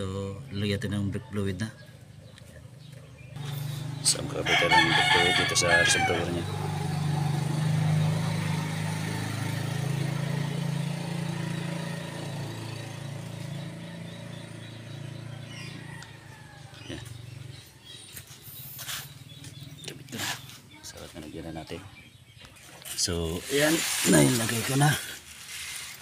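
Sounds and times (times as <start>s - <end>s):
vehicle engine hum: 1.7s - 26.0s.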